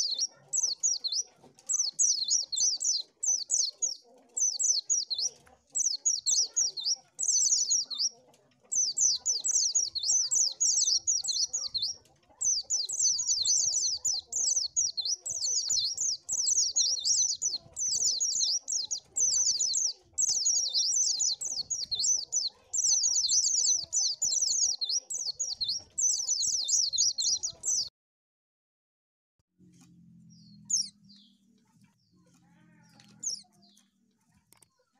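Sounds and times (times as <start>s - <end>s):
bird twittering chirps: 0.0s - 27.9s, 30.2s - 31.8s.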